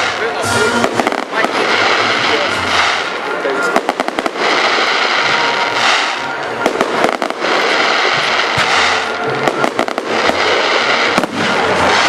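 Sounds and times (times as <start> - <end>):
fireworks bursting with bangs: 0.0 - 12.0
fireworks crackle: 0.0 - 12.0.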